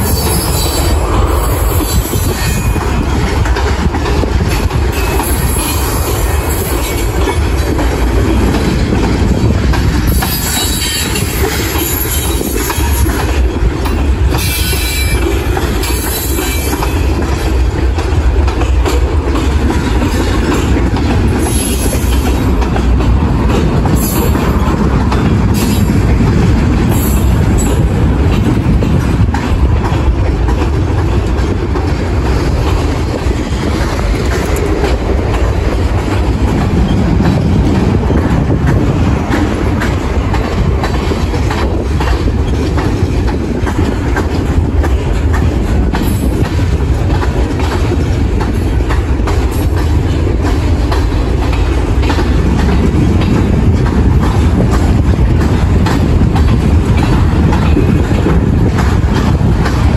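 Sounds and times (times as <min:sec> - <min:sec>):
clicking over rail joints: 0:00.0 - 0:59.9
train wheels rumbling on rail: 0:00.0 - 0:59.9.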